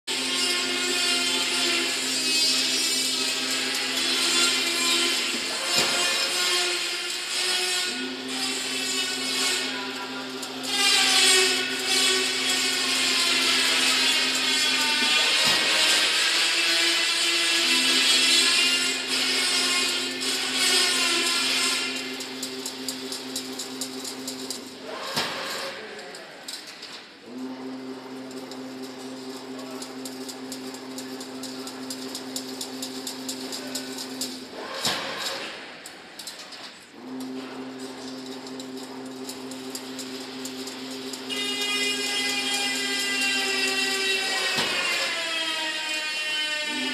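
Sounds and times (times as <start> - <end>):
electric motor hum: 0.1 - 25.9, 27.2 - 35.7, 37.0 - 46.9
mechanical whirr: 0.1 - 46.9.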